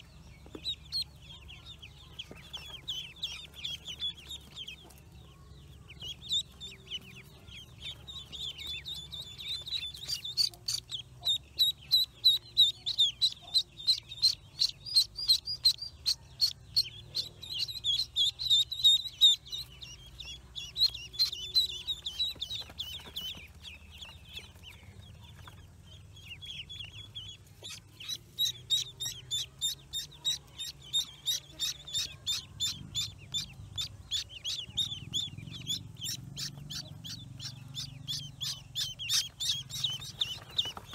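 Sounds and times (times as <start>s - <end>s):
ducklings peeping shrilly: 0.0s - 40.9s.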